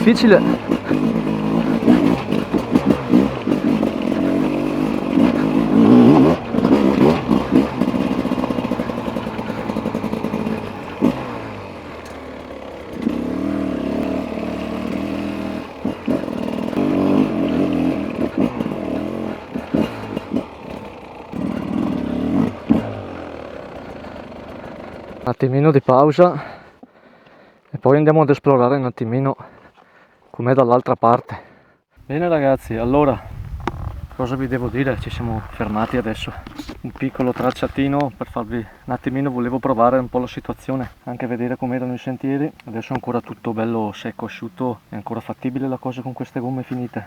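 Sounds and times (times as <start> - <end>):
two-stroke motorcycle engine revving: 0.0 - 25.4, 32.0 - 47.0.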